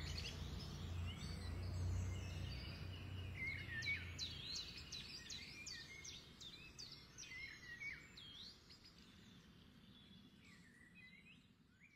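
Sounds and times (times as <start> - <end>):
birds chirping and whistling: 0.0 - 11.9.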